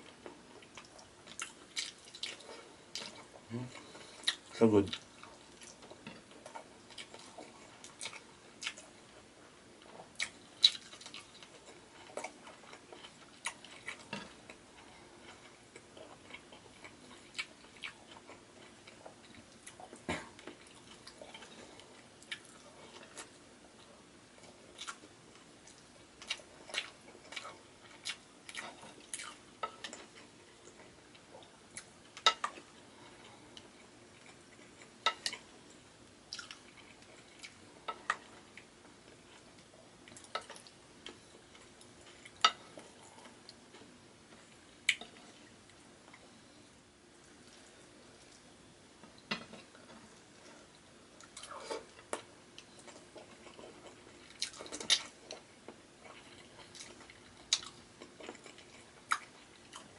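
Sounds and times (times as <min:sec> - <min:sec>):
person chewing food: 0:00.0 - 0:46.4, 0:47.2 - 0:59.9.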